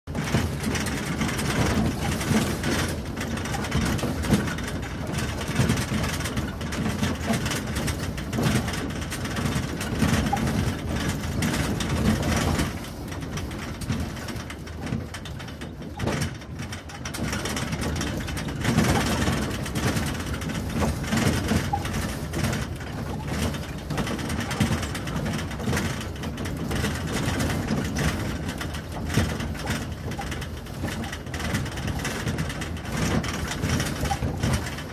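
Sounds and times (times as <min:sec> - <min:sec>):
atv engine running: 0:00.1 - 0:34.9
cargo bed rattling and clattering: 0:00.1 - 0:34.9.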